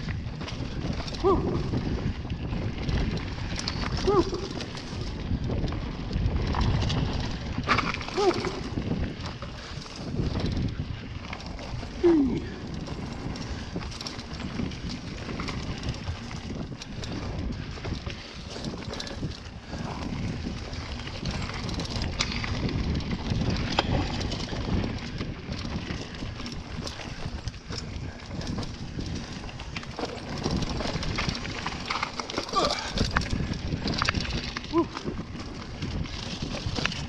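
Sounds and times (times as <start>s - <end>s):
bike rattling and clicking: 0.0s - 37.0s
bike tyres rumbling over rocks: 0.0s - 37.0s
wind buffeting microphone: 0.0s - 37.0s.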